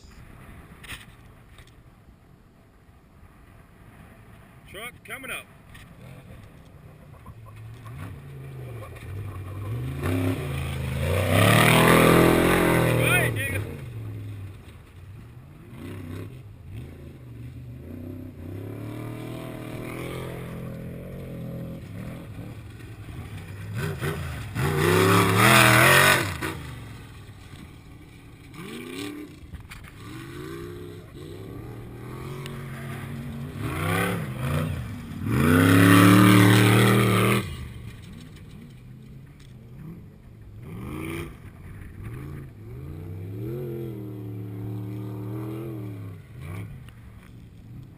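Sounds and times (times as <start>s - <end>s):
distant engines: 0.0s - 47.9s
race vehicle engines revving: 3.8s - 47.9s.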